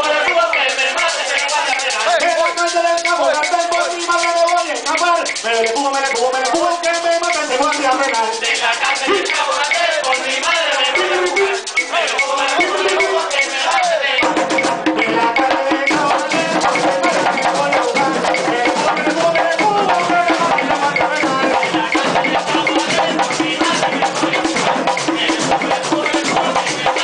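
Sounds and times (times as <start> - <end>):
frame drums beaten: 0.0 - 27.0
group of voices singing: 0.0 - 27.0.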